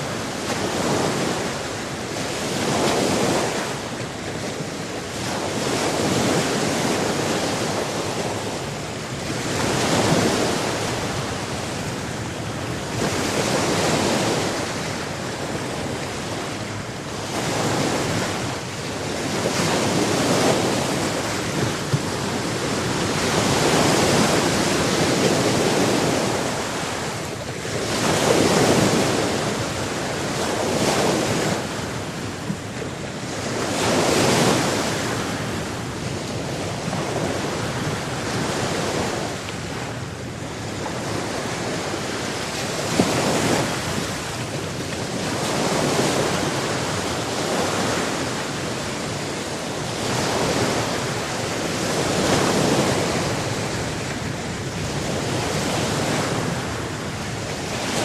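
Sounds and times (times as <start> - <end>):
sea surf washing ashore: 0.0 - 58.0.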